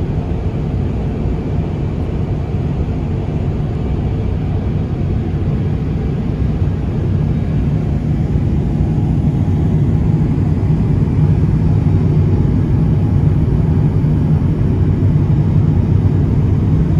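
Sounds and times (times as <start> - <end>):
jet engine rumble in cabin: 0.0 - 16.9.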